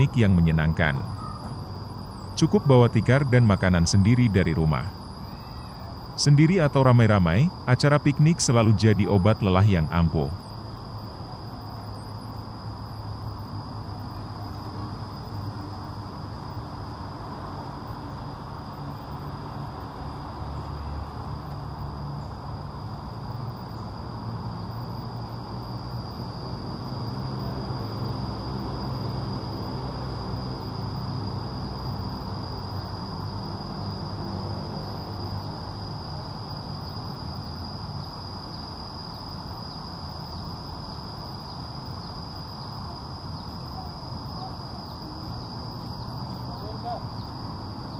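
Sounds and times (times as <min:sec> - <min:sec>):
insects buzzing high-pitched: 0:00.0 - 0:47.9.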